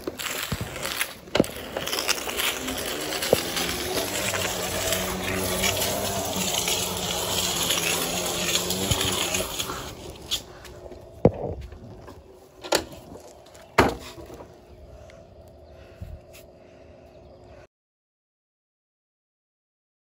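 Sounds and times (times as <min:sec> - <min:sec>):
scooter wheels on rough asphalt: 0:00.0 - 0:17.4
low steady hum: 0:00.0 - 0:17.7.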